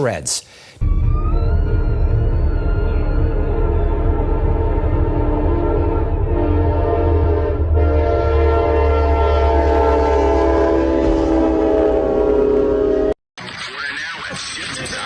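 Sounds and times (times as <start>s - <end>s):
locomotive air horn: 0.8s - 13.2s
low rumble of train: 0.8s - 13.2s.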